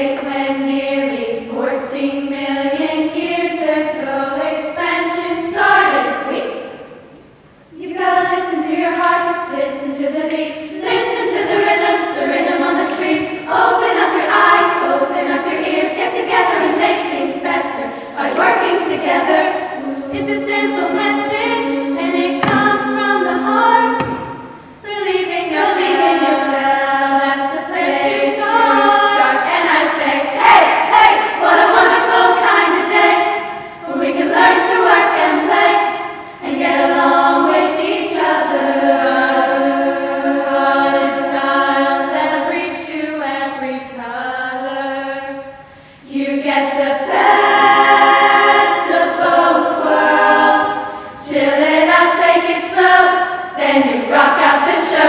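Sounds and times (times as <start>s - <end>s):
girls' choir singing: 0.0s - 55.0s.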